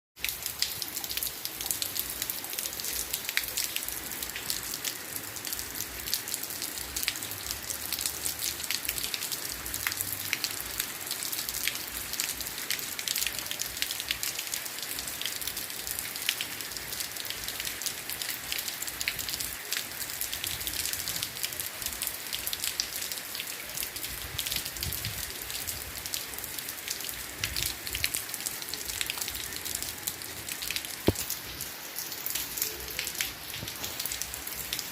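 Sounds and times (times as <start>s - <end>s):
raindrops ticking close by: 0.2s - 34.9s
steady rain falling: 0.2s - 34.9s.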